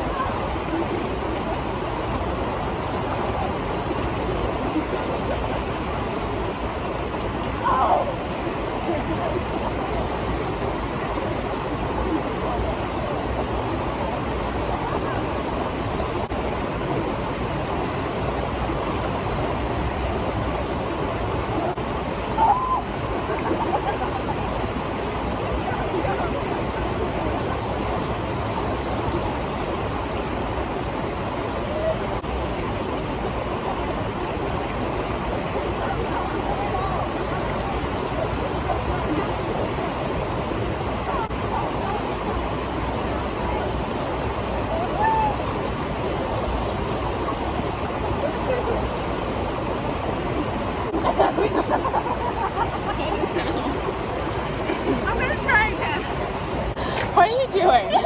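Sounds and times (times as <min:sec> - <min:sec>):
rushing flowing water: 0:00.0 - 0:58.0.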